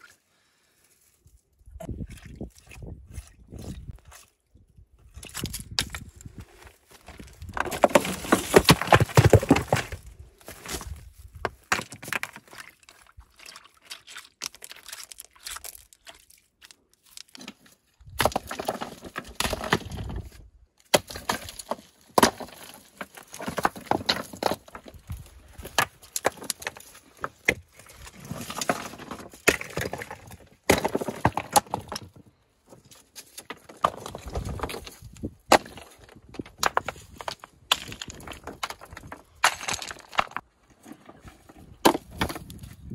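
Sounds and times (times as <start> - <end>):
stones clattering and scraping: 5.0 - 42.9.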